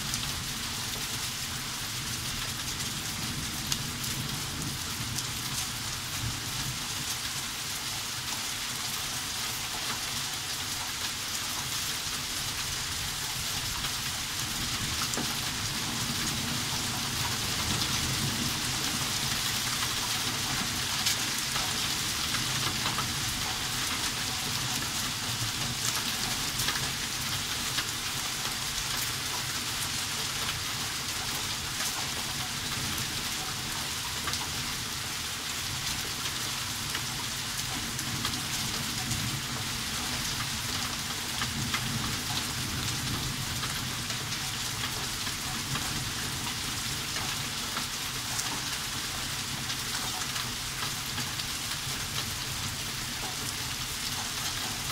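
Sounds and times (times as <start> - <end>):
hail pattering on surfaces: 0.0 - 54.9
heavy rain pouring: 0.0 - 54.9.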